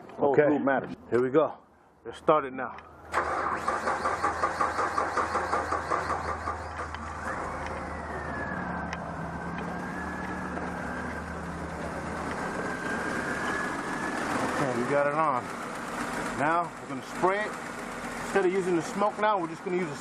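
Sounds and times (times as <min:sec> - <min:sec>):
car engine starting and idling: 0:03.0 - 0:20.0.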